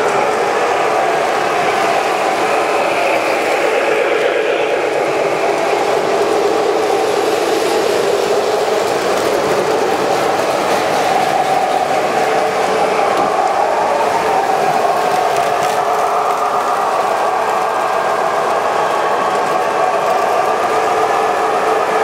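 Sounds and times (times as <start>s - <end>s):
model trains whirring and rumbling: 0.0s - 22.0s.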